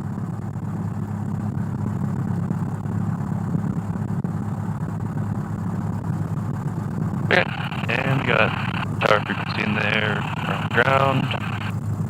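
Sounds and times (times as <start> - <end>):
piston aircraft engine idling: 0.0 - 12.0.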